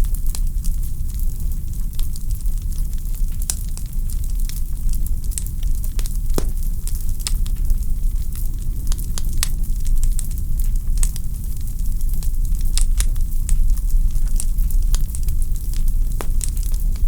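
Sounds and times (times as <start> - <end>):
fire low rumble: 0.3 - 17.0
wood fire crackling: 1.9 - 17.0.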